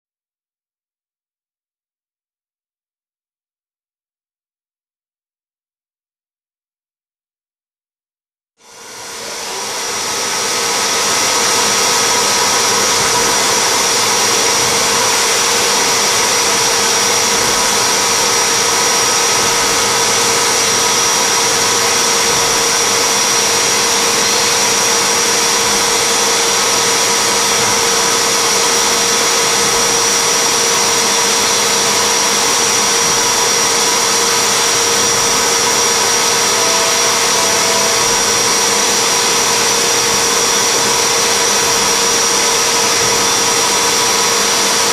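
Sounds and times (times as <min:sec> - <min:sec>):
engraving spindle hissing and whining: 0:08.7 - 0:44.9.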